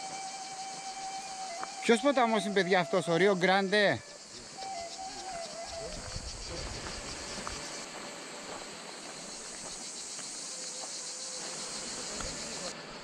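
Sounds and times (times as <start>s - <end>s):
cicada chorus: 0.0s - 13.0s.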